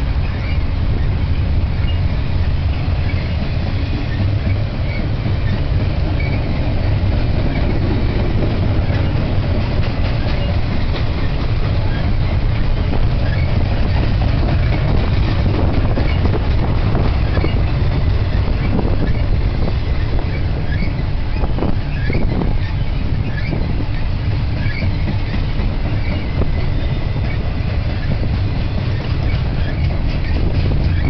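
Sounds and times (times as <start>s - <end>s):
rail cars rumbling past: 0.0s - 31.0s
wheels clicking over rail joints: 0.0s - 31.0s.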